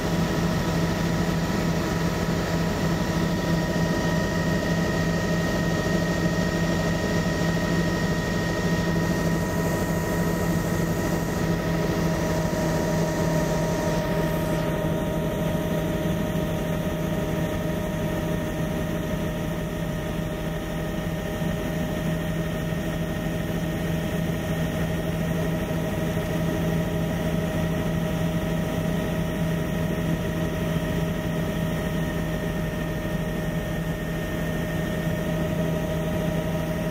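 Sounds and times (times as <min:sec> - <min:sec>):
aircraft engine drone: 0:00.0 - 0:36.9.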